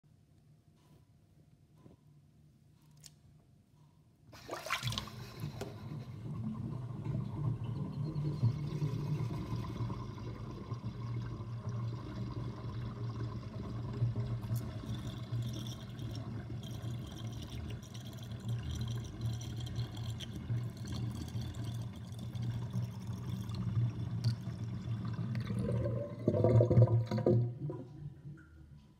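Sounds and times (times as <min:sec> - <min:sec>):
sink water draining gurgling: 0:04.4 - 0:28.5.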